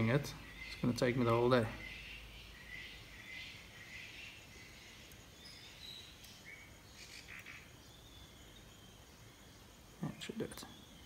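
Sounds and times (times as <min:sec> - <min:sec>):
background hiss: 0:00.0 - 0:11.0
birds chirping: 0:00.0 - 0:11.0.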